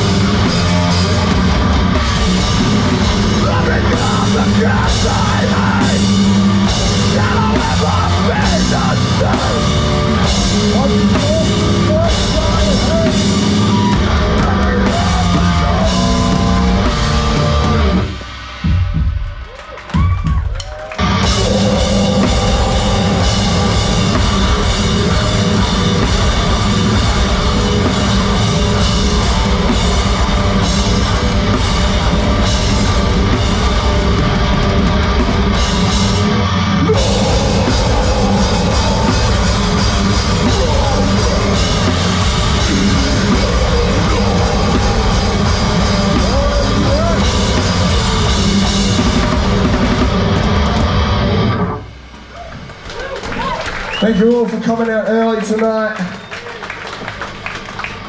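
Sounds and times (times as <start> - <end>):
heavy rock band playing live: 0.0 - 52.1
drum kit pounding: 0.0 - 52.8.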